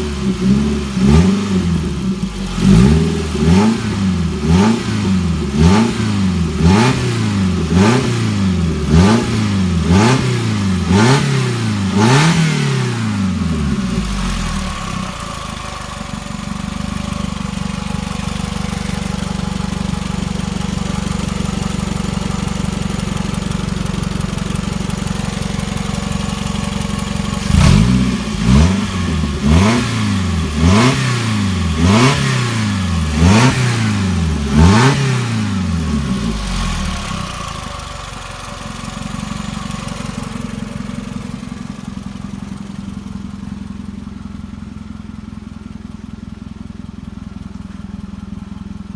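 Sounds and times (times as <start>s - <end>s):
car engine revving: 0.0s - 43.9s
car engine idling: 0.0s - 48.9s.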